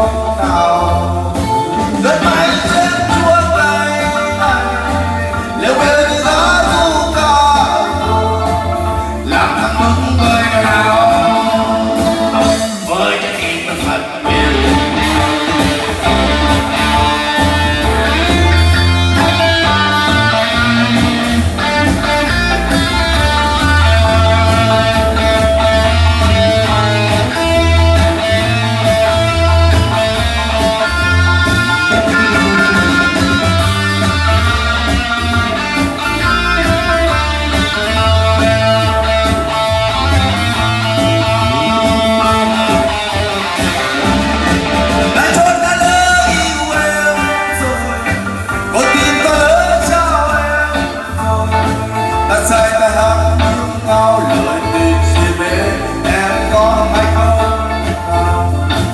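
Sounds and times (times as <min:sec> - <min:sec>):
bass guitar: 0:00.0 - 0:58.9
guitar melody: 0:00.0 - 0:58.9
steady drum beat: 0:00.0 - 0:58.9.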